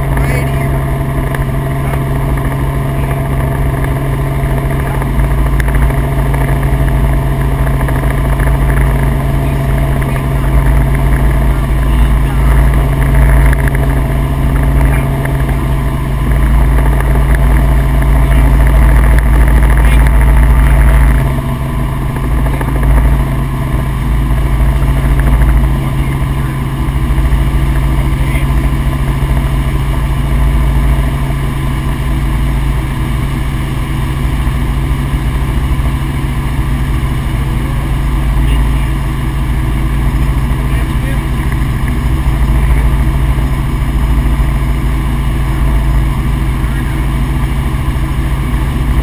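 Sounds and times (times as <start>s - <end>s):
helicopter engine and rotor noise: 0.0s - 49.0s.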